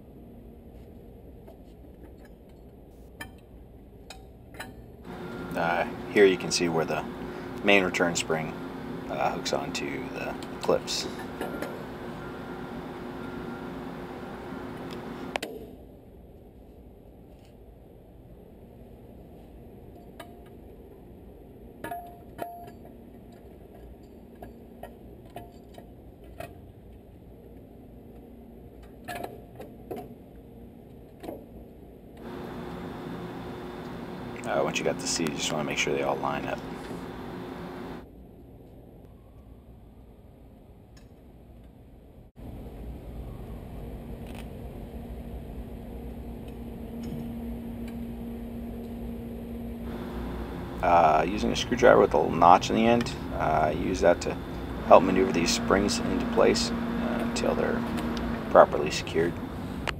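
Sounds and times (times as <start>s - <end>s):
steady low hum: 0.0s - 29.0s, 29.7s - 59.9s.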